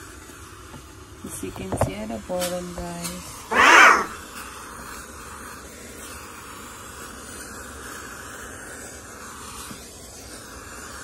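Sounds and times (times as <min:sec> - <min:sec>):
garment steamer hissing: 0:00.0 - 0:11.0.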